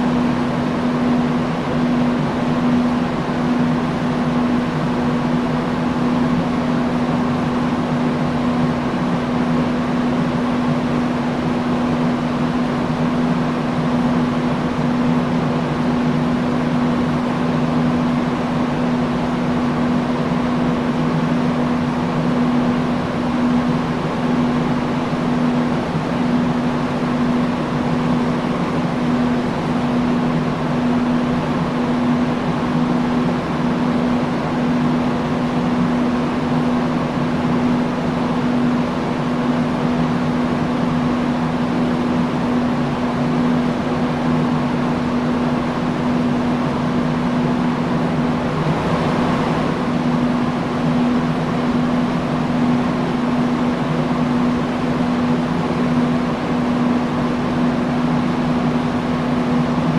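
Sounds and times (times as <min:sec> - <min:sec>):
fan motor hum: 0:00.0 - 0:59.9
industrial fan rushing air: 0:00.0 - 0:59.9.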